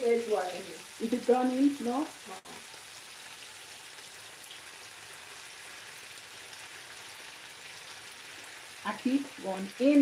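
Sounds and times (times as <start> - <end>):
fish and vegetables sizzling in pan: 0.0 - 10.0.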